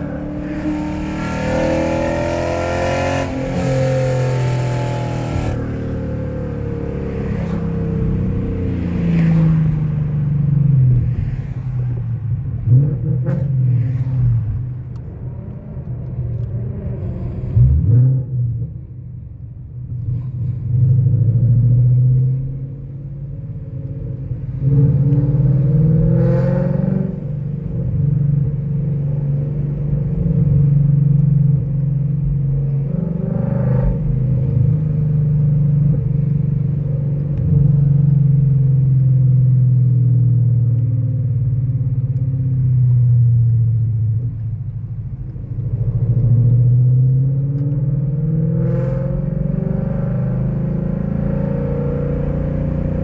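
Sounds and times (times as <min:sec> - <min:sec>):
car engine revving in cabin: 0:00.0 - 0:11.4, 0:19.9 - 0:53.0.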